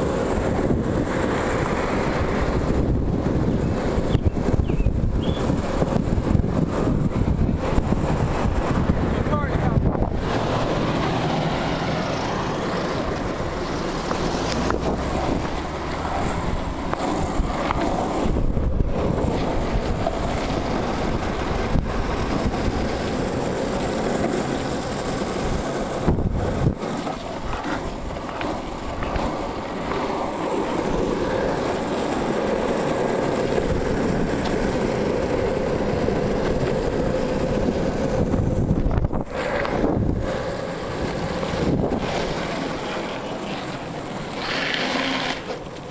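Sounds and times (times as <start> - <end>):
longboard wheels rolling on asphalt: 0.0 - 45.9
wind buffeting microphone: 0.0 - 45.9.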